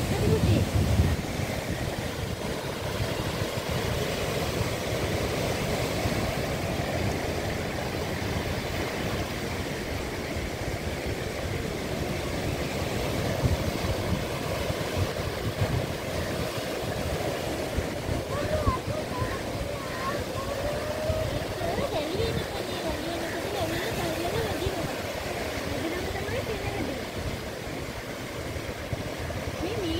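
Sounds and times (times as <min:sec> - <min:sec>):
ocean surf breaking on boulders: 0:00.0 - 0:29.9.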